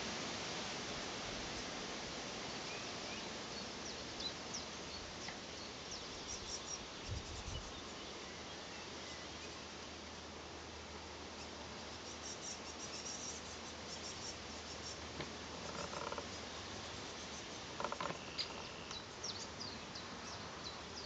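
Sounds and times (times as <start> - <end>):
steady background hiss: 0.0 - 21.0
small birds chirping: 2.5 - 10.0, 11.4 - 21.0.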